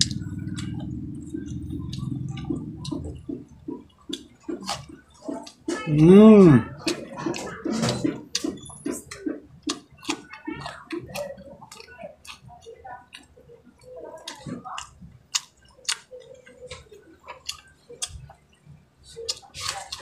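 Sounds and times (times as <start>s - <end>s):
chewing corn: 0.0s - 20.0s.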